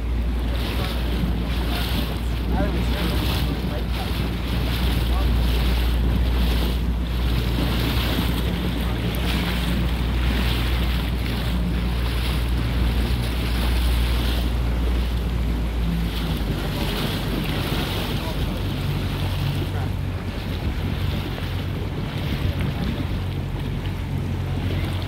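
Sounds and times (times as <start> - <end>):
boat engine drone: 0.0 - 25.0
water rushing past hull: 0.0 - 25.0
wind buffeting microphone: 0.0 - 25.0.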